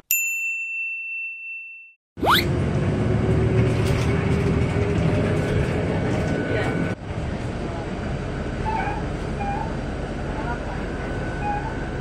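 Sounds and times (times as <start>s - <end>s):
bus cabin rumble: 2.2s - 12.0s.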